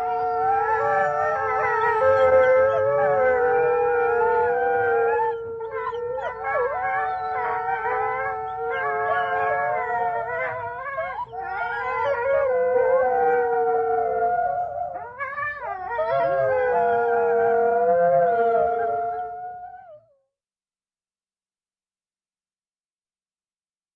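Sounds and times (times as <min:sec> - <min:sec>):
wolves howling: 0:00.0 - 0:20.1.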